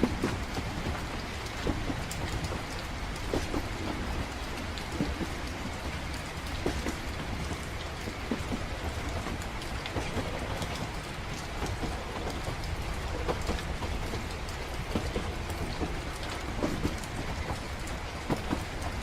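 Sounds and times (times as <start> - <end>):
sharp raindrop ticks: 0.0 - 19.0
steady rain: 0.0 - 19.0.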